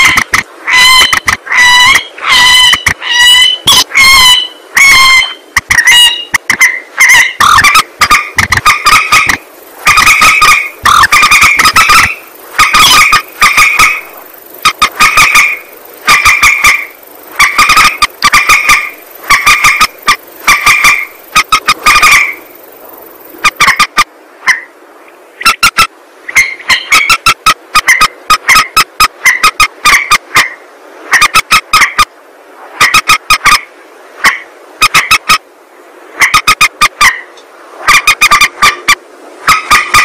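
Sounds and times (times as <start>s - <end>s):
rail bird calling: 0.0s - 35.5s, 36.1s - 40.0s.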